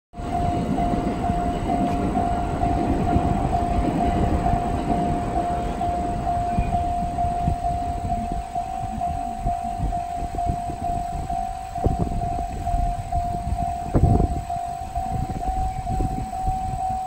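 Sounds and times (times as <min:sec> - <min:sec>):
level crossing electronic bell: 0:00.2 - 0:17.0
low rumble: 0:00.2 - 0:17.0.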